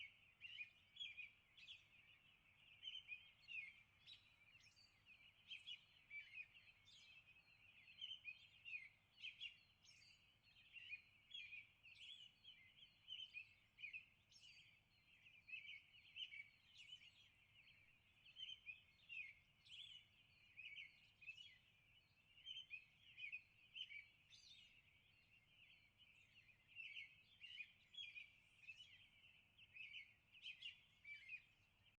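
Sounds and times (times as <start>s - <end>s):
faint small birds chirping: 0.0s - 32.0s.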